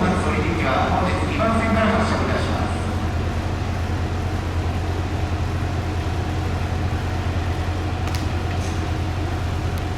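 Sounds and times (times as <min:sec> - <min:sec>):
diesel railcar engine idling: 0:00.0 - 0:09.9.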